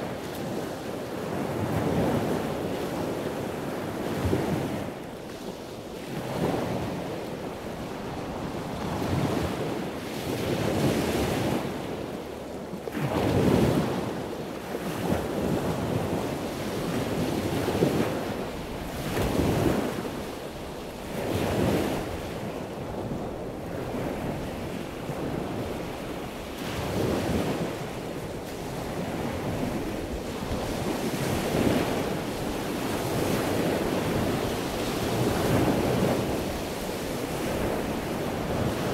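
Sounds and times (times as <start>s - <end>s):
wind buffeting microphone: 0.0s - 12.3s, 12.9s - 38.9s.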